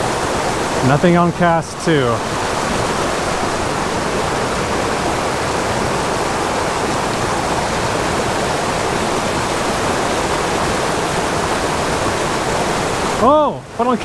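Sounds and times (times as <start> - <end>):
mountain creek rushing over boulders: 0.0 - 14.0.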